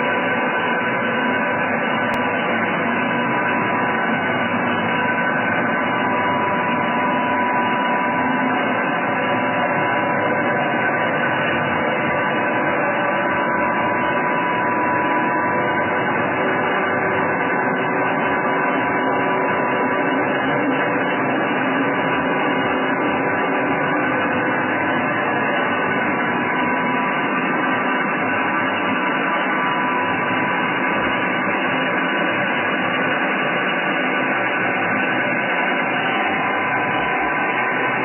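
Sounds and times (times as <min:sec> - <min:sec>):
grinder machine humming: 0:00.0 - 0:38.0.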